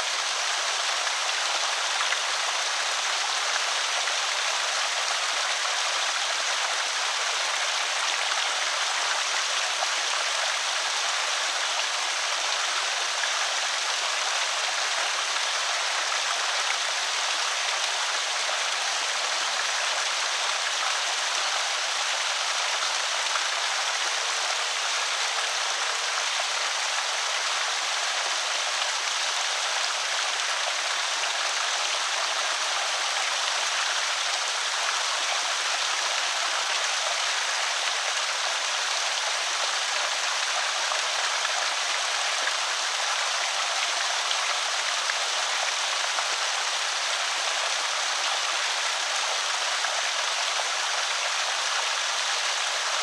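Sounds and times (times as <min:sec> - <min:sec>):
creek water pouring over spillway: 0:00.0 - 0:53.0.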